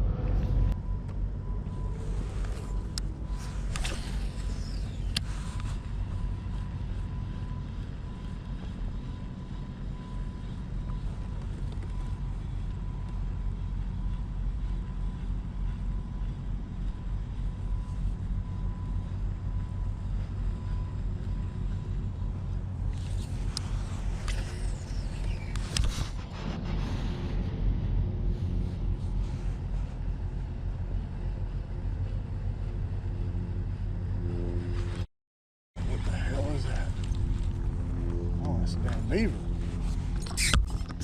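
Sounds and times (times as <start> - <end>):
boat motor running: 0.0 - 35.0, 35.8 - 41.0.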